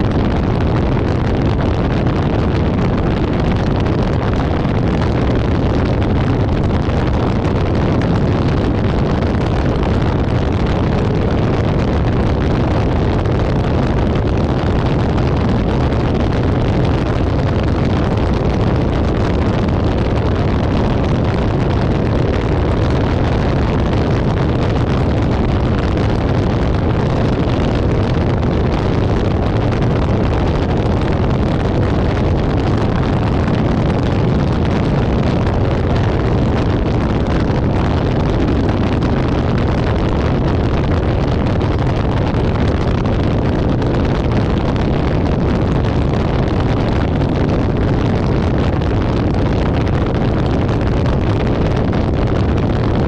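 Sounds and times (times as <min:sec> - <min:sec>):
wind and road noise: 0:00.0 - 0:53.0
wind buffeting microphone: 0:00.0 - 0:53.0.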